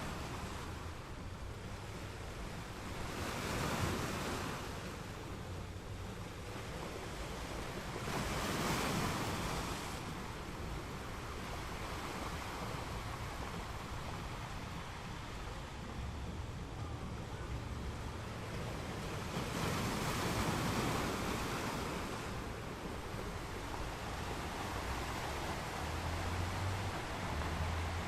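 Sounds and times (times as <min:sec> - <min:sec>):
ocean waves breaking on a beach: 0:00.0 - 0:28.0.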